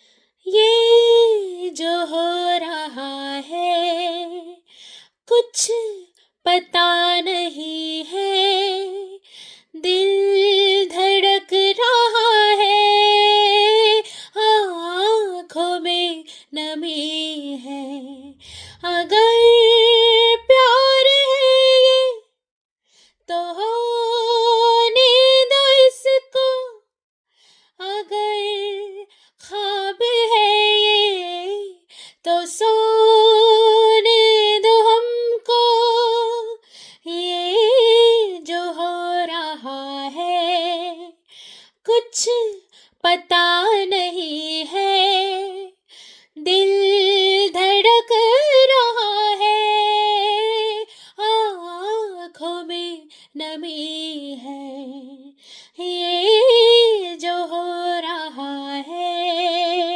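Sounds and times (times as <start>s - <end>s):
woman singing unaccompanied: 0.5s - 4.6s, 5.3s - 22.3s, 23.3s - 26.8s, 27.8s - 41.2s, 41.8s - 45.8s, 46.4s - 59.9s.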